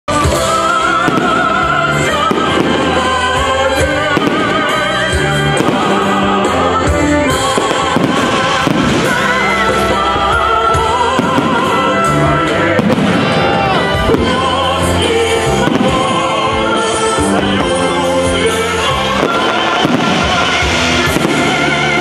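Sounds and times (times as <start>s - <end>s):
fireworks bangs: 0.1s - 22.0s
loud music with singing: 0.1s - 22.0s.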